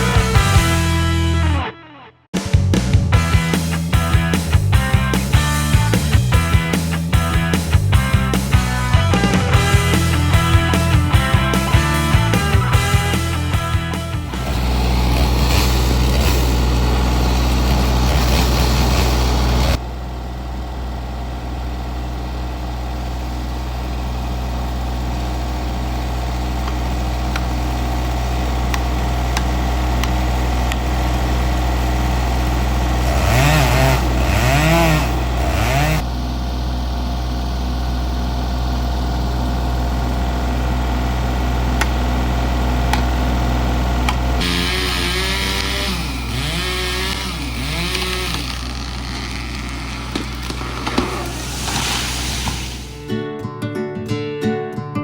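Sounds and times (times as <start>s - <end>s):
engine running and revving: 0.0s - 1.6s, 2.7s - 19.9s, 23.1s - 36.2s, 36.9s - 53.0s.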